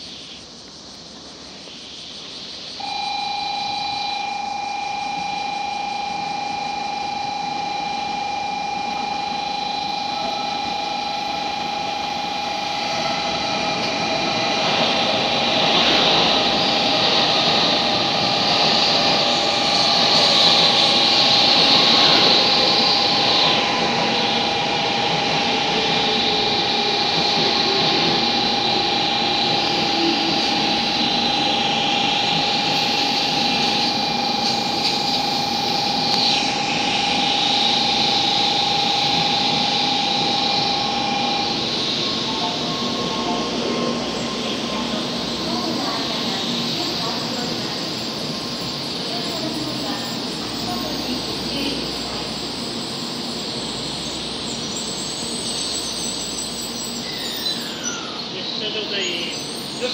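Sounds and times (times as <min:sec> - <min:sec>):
train motor whine: 0:02.3 - 0:59.9
steady tone: 0:02.8 - 0:59.9.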